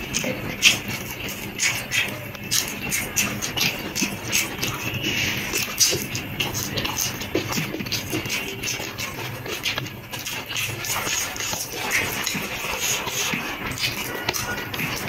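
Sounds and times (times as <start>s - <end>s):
eating sounds: 0.0s - 15.0s.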